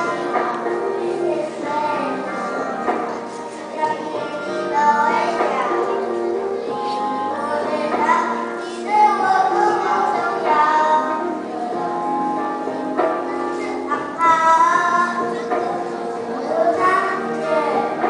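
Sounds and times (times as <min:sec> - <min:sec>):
child singing: 0:00.0 - 0:18.0
instrumental accompaniment: 0:00.0 - 0:18.0.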